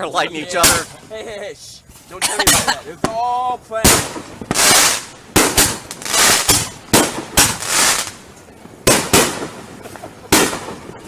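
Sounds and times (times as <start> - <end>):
fireworks crackling: 0.4 - 11.0
fireworks bangs: 0.5 - 1.1, 2.4 - 11.0.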